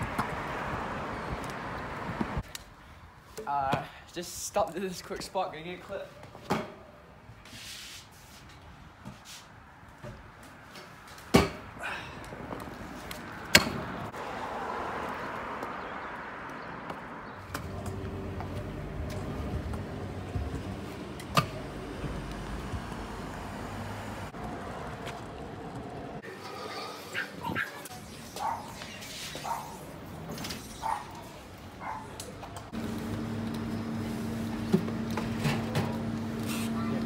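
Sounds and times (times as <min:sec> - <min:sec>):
scooter wheels rolling on concrete: 0:00.0 - 0:06.5, 0:07.4 - 0:37.0.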